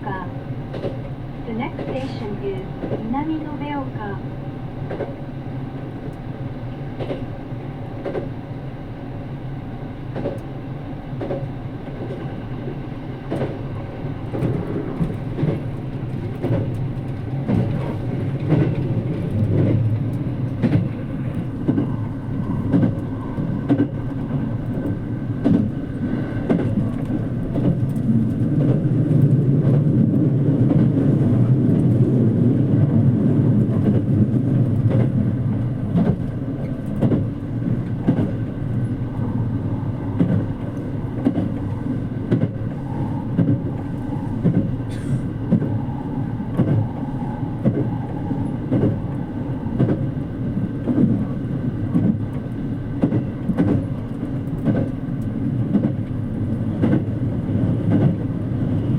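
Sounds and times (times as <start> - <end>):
train cabin rumble: 0.0 - 58.9.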